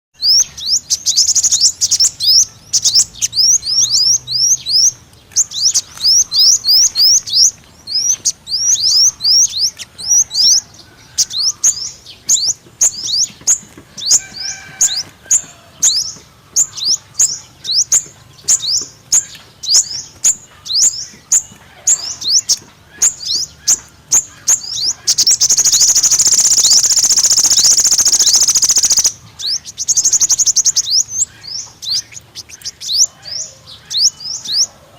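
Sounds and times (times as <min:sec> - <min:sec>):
sunbird high chirps: 0:00.2 - 0:34.8.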